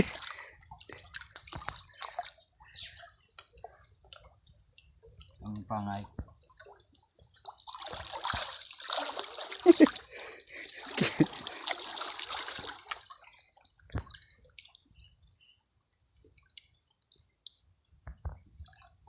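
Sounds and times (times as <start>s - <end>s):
water dripping: 0.0s - 15.2s, 16.0s - 19.0s
water splashing and trickling: 0.0s - 19.0s.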